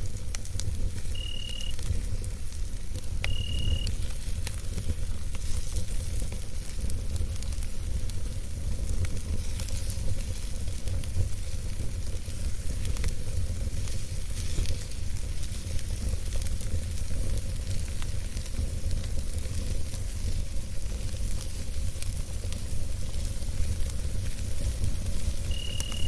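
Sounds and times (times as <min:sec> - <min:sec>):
burning wood crackling: 0:00.0 - 0:26.0
rumble of campfire flames: 0:00.0 - 0:26.0.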